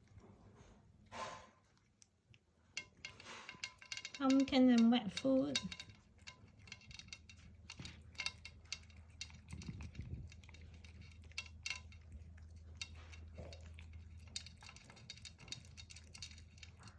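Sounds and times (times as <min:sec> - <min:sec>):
cat chewing and licking food: 0:00.0 - 0:16.9
low steady hum: 0:00.0 - 0:16.9.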